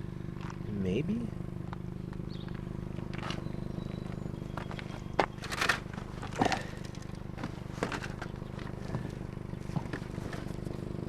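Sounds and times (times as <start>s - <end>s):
low hum: 0.0s - 11.0s
crackly rustling: 1.7s - 10.7s.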